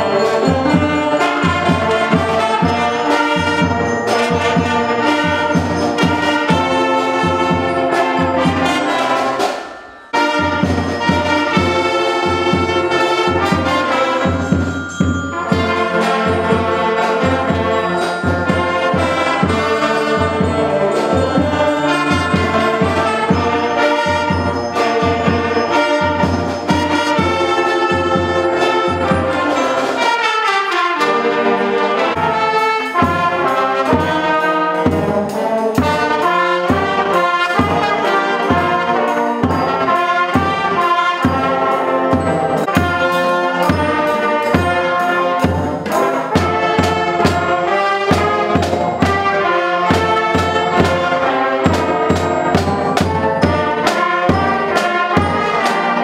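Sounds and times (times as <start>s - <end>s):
school wind band playing: 0.0s - 56.0s.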